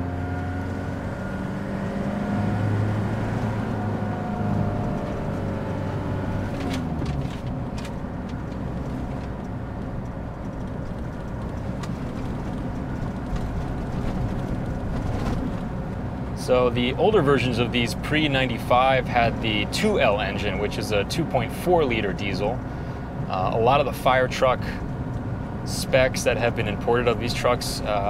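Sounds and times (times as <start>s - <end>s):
diesel engine running: 0.0s - 28.0s
road and tyre noise: 0.0s - 28.0s.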